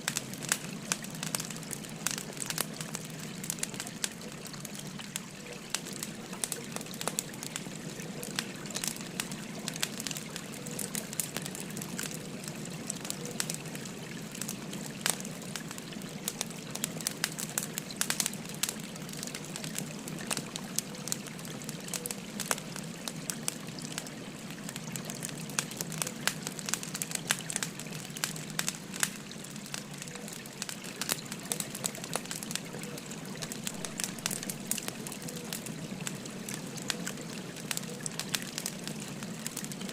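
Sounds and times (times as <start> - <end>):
babbling river: 0.0 - 39.9
wood fire crackling: 0.0 - 39.9.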